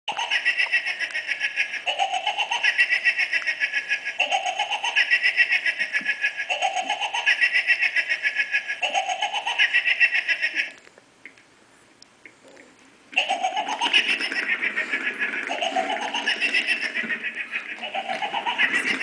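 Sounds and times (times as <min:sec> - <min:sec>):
electronic toy laughing: 0:00.1 - 0:10.8, 0:13.1 - 0:19.0.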